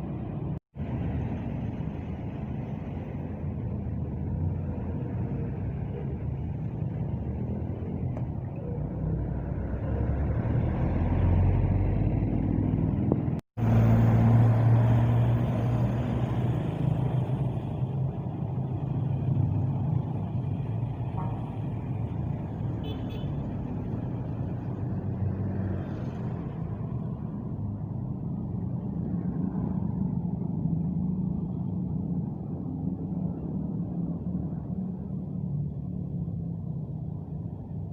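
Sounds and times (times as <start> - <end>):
bus diesel engines rumbling: 0.0 - 37.9.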